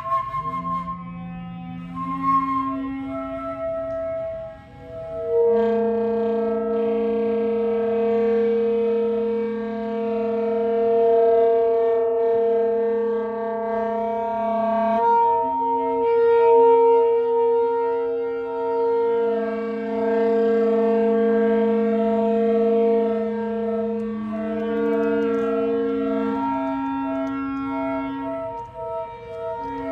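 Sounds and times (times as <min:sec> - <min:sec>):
wind instruments holding drone notes: 0:00.0 - 0:29.9.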